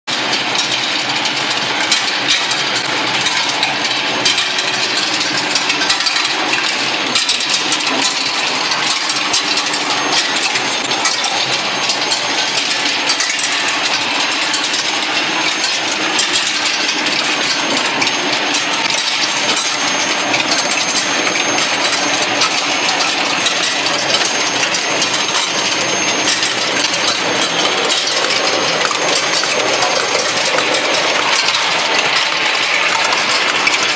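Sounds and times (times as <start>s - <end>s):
steel balls clinking and rattling: 0.1s - 33.9s
rolling mill machinery din: 0.2s - 33.9s.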